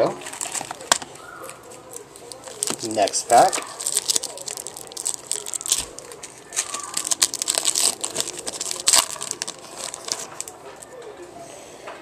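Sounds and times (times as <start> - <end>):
foil wrapper crinkling and tearing: 0.0 - 11.1.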